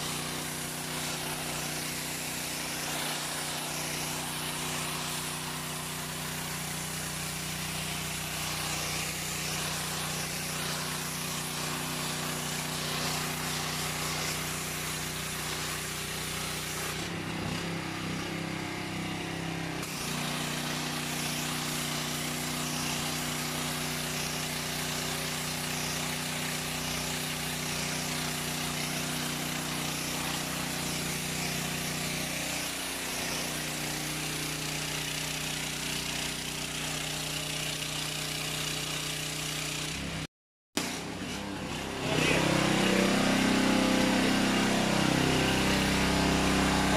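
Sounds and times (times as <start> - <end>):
high-pressure spray hiss: 0.0 - 18.6, 19.8 - 39.9
pressure washer engine: 0.0 - 46.9.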